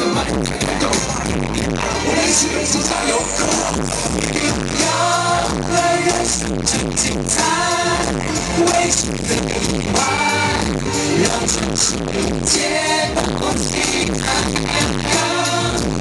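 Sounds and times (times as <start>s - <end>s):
loud backing track with heavy bass: 0.0s - 16.0s
men singing: 0.0s - 16.0s.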